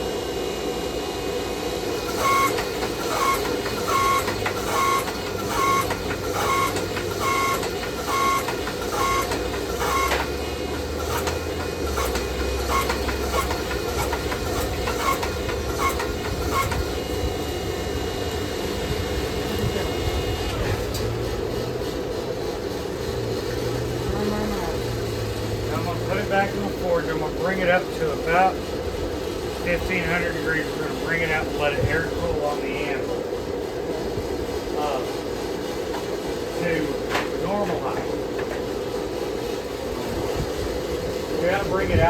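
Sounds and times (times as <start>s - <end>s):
forge running noise: 0.0s - 42.0s.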